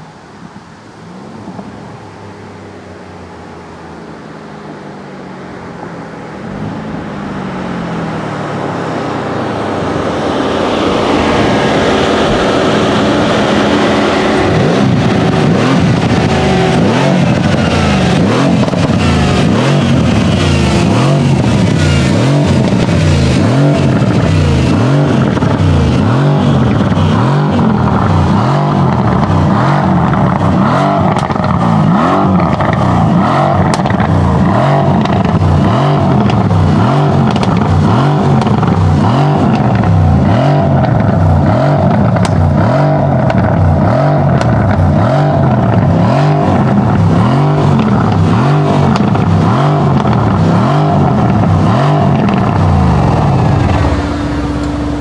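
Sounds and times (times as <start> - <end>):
car engine running: 1.1 - 55.0.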